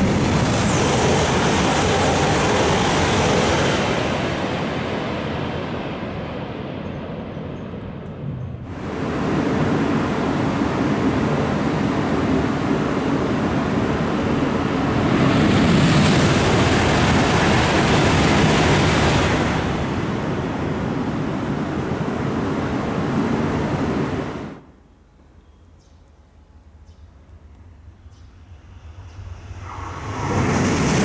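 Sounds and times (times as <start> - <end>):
high-speed train passing: 0.0 - 24.8, 26.5 - 31.0.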